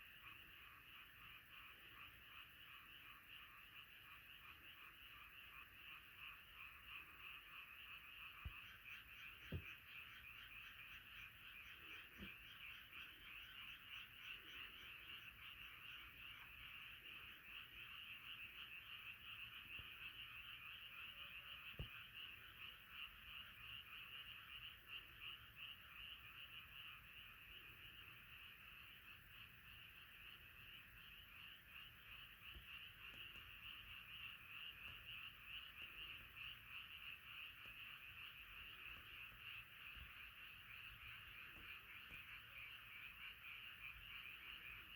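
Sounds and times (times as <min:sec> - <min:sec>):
frogs croaking: 0:00.0 - 0:44.9.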